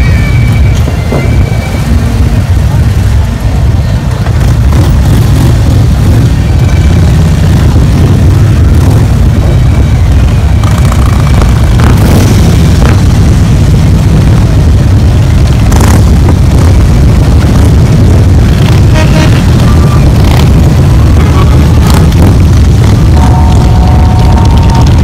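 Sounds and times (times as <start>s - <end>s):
motorcycle engines rumbling: 0.0s - 25.0s.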